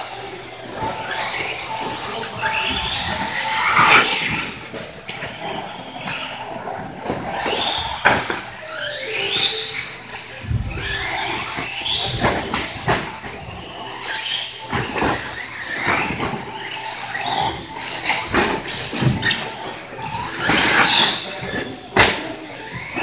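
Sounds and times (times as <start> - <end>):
electric motor whine: 0.0 - 23.0
tyre noise: 0.6 - 23.0.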